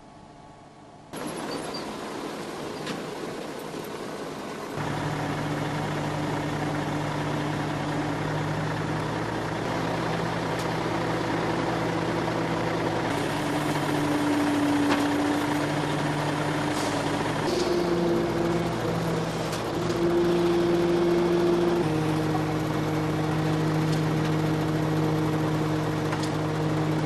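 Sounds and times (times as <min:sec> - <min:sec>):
heavy diesel engine running: 0:00.6 - 0:27.0.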